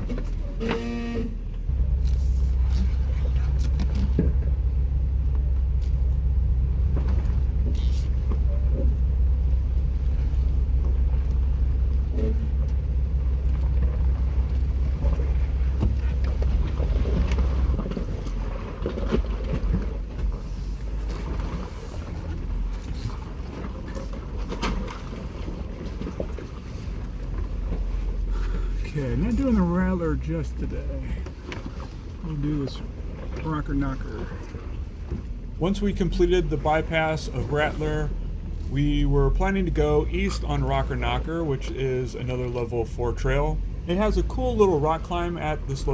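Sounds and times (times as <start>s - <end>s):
engine running under load: 0.0s - 45.9s.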